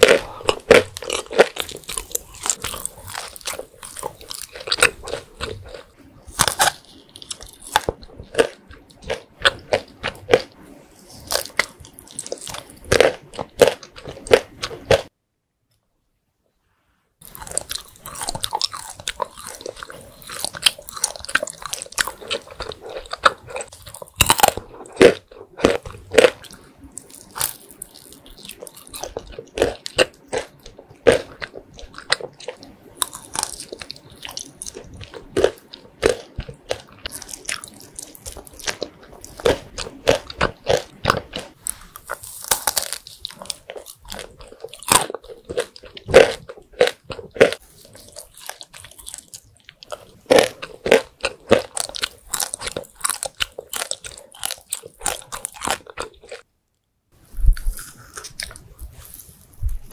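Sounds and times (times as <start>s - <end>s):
crunchy chewing with mouth clicks: 0.0s - 15.1s, 17.2s - 59.9s.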